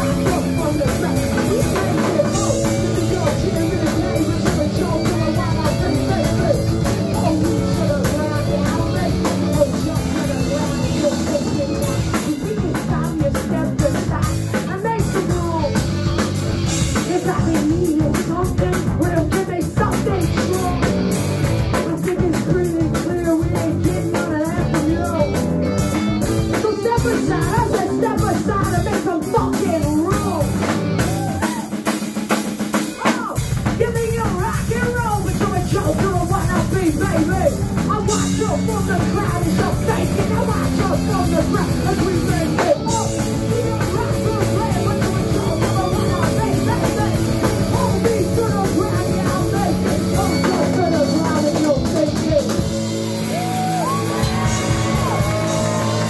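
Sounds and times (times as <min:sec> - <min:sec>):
person shouting lead vocal: 0:00.0 - 0:15.8, 0:21.8 - 0:25.4, 0:26.5 - 0:31.8, 0:32.9 - 0:56.0
garage punk band playing live: 0:00.0 - 0:56.0.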